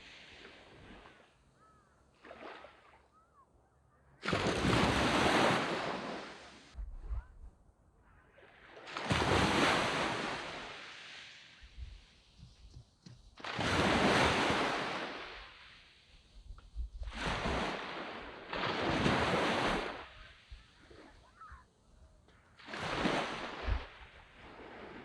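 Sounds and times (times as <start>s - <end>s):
waves breaking on sand beach: 0.0s - 3.3s, 4.2s - 6.8s, 8.3s - 25.0s.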